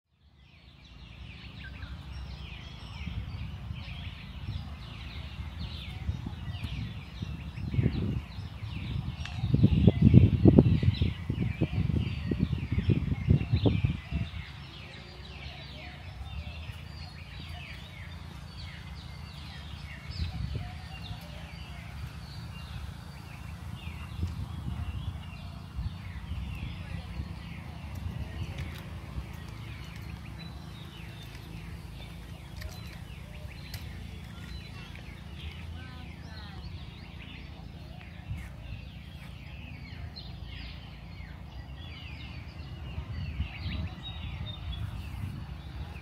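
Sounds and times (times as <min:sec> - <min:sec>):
birds chirping: 0:00.1 - 0:46.0
low steady rumble: 0:00.2 - 0:46.0.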